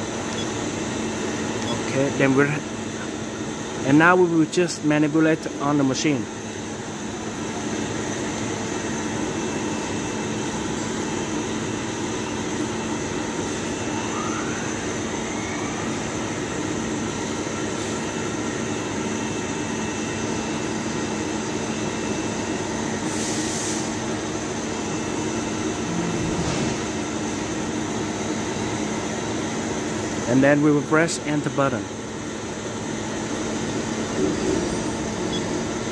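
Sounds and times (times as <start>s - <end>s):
machine-shop equipment humming: 0.0s - 35.9s.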